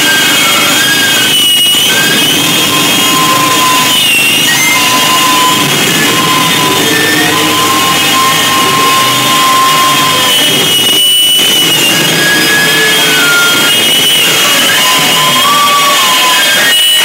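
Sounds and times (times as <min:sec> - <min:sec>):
harsh noise music: 0:00.0 - 0:17.0
high feedback whines: 0:00.0 - 0:17.0.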